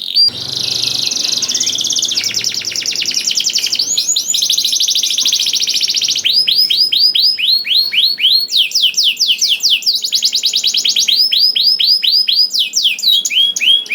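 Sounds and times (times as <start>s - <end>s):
canary singing: 0.0s - 13.9s.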